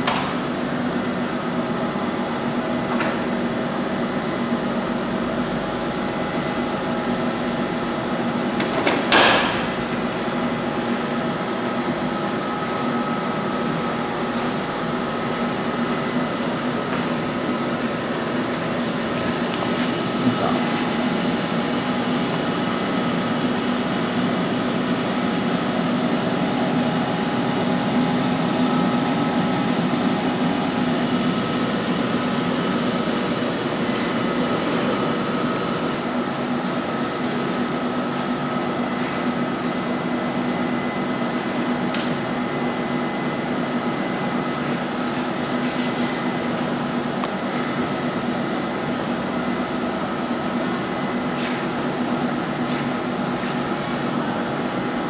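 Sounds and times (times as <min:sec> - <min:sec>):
welding machine hum and fan: 0:00.0 - 0:55.0.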